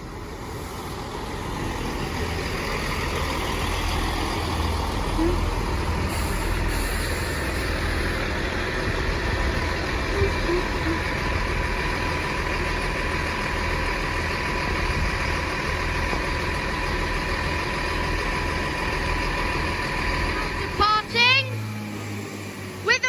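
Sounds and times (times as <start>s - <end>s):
train diesel engines idling: 0.0s - 23.0s.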